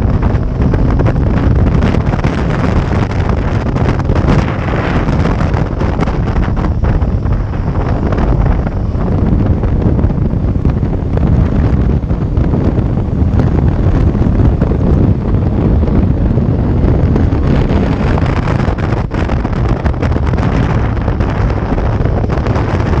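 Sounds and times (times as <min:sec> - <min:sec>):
motorcycle running: 0:00.0 - 0:23.0
wind buffeting microphone: 0:00.0 - 0:23.0.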